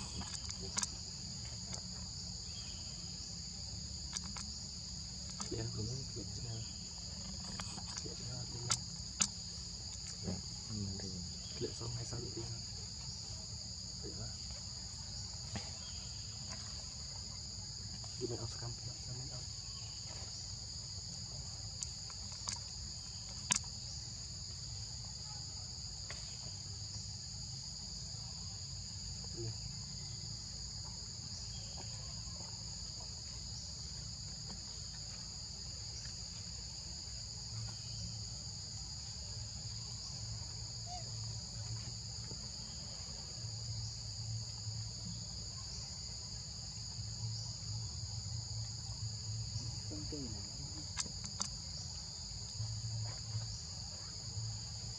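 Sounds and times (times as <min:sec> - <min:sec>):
insects buzzing: 0:00.0 - 0:54.9.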